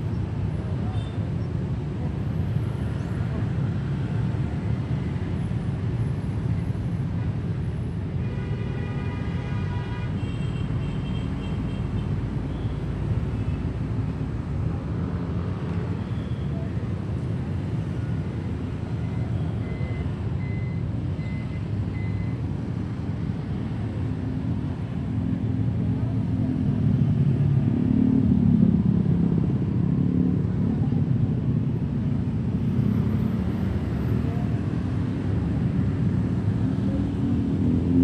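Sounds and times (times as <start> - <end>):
scooters and cars passing: 0.0 - 38.0.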